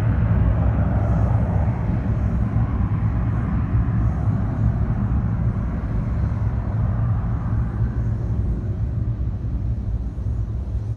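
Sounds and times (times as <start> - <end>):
jet engines rumbling: 0.0 - 10.9.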